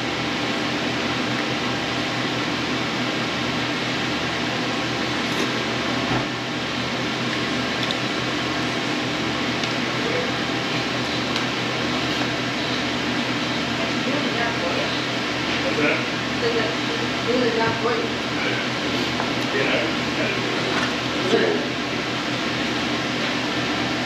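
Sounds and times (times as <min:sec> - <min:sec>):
air conditioning fan whirring: 0:00.0 - 0:24.0.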